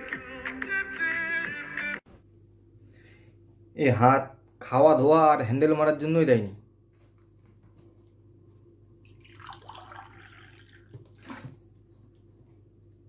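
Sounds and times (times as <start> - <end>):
low steady hum: 2.1 - 13.0.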